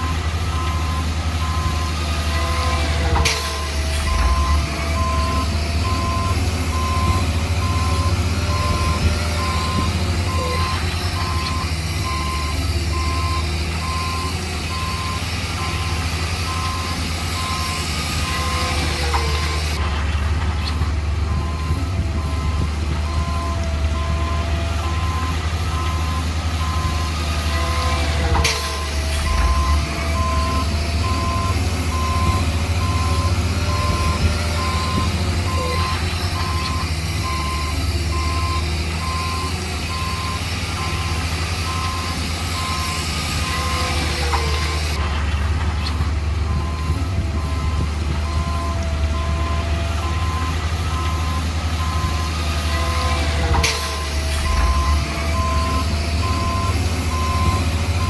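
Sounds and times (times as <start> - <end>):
reversing alarm beeping: 0.0 - 19.8, 20.7 - 45.0, 45.9 - 58.0
diesel engine rumble: 0.0 - 58.0.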